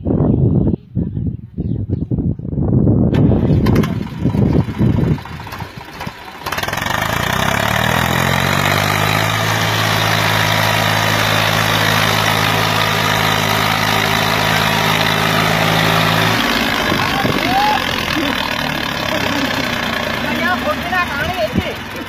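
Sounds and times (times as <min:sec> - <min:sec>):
tractor diesel engine revving: 0:03.1 - 0:22.0.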